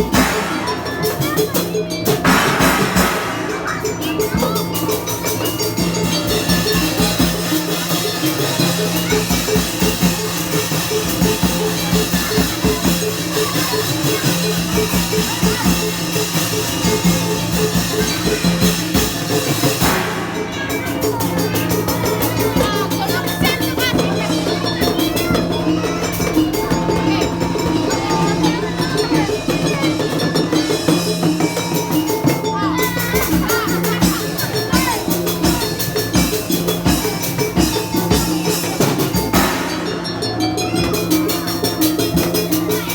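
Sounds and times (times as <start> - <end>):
drums beating steadily: 0.0 - 42.9
street band music: 0.0 - 42.9.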